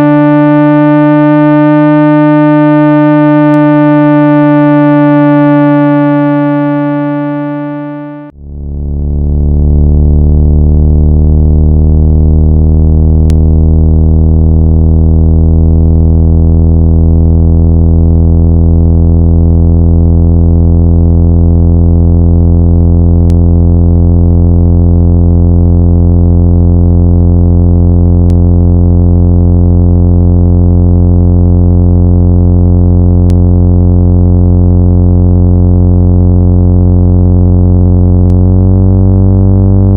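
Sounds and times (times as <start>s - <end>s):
lower buzzier tone: 0.0s - 39.9s
steady buzzy tone: 0.0s - 39.9s.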